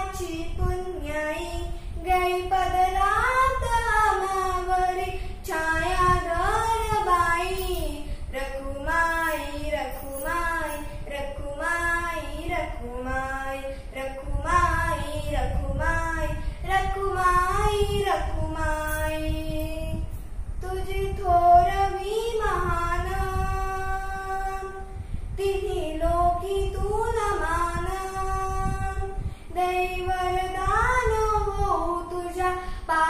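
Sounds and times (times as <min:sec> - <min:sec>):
girl singing a devotional song: 0:00.0 - 0:33.0.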